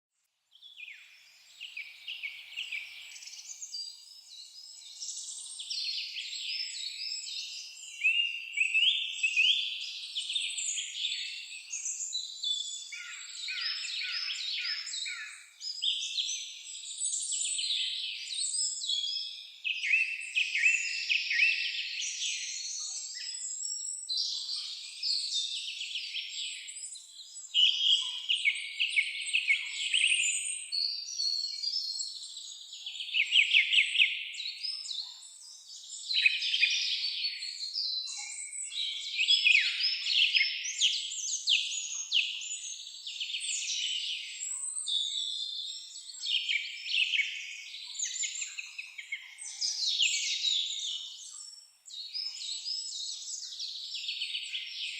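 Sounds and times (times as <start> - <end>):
songbirds chirping: 0.5 - 54.9.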